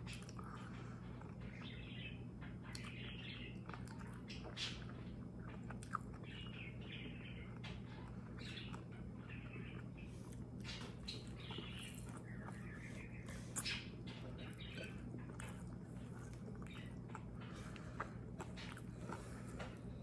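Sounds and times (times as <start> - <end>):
chewing with wet mouth clicks: 0.0 - 20.0
low steady hum: 0.0 - 20.0.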